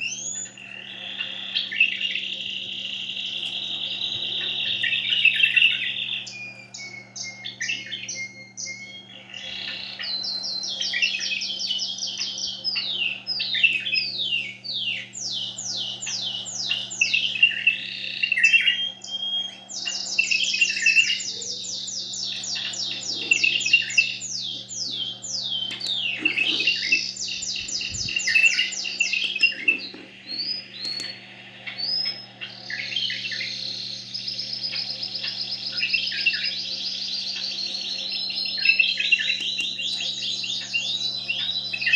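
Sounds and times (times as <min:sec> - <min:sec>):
songbirds singing: 0:00.0 - 0:41.9.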